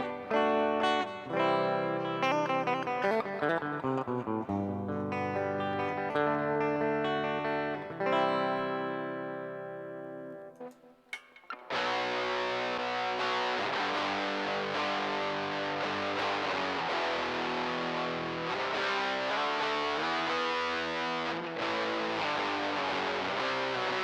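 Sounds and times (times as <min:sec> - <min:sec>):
distorted electric guitar chords: 0:00.0 - 0:10.8, 0:11.5 - 0:24.0.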